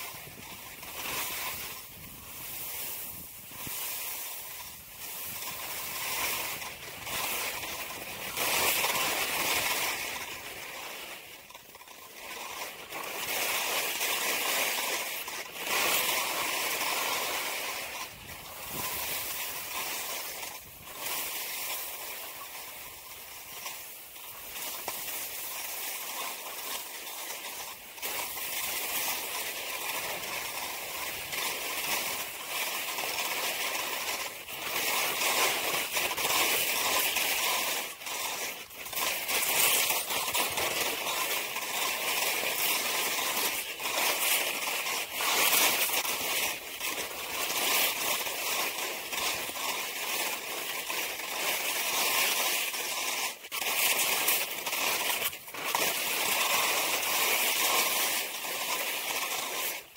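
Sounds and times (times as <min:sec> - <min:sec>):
skis scraping over snow: 0:00.0 - 0:59.9.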